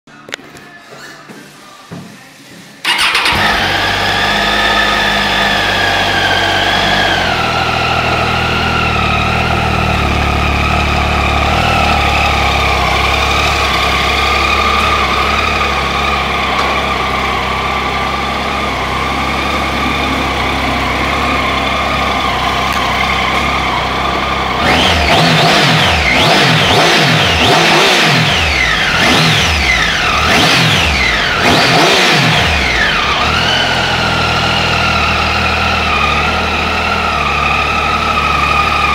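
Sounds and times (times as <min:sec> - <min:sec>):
engine revving: 0:02.8 - 0:38.9
motorcycle engine idling: 0:02.8 - 0:38.9.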